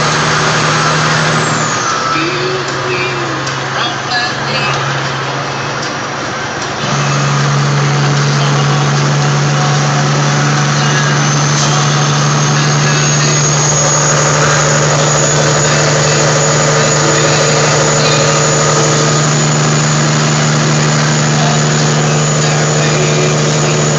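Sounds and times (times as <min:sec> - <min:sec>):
diesel truck engine droning: 0:00.0 - 0:23.9.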